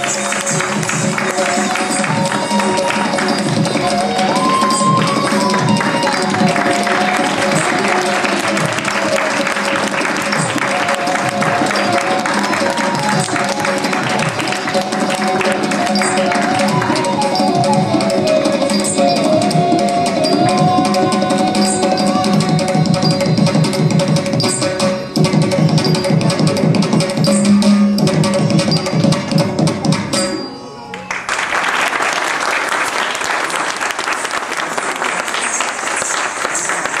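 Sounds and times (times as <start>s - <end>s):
audience applause: 0.0s - 23.8s, 31.0s - 37.0s
dance music with hand drum: 0.0s - 30.4s.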